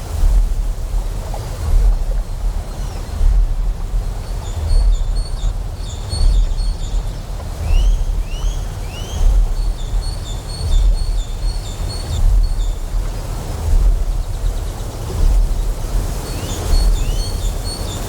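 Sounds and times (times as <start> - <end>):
deep pulsing generator hum: 0.0 - 18.0
steady wash of noise: 0.0 - 18.0.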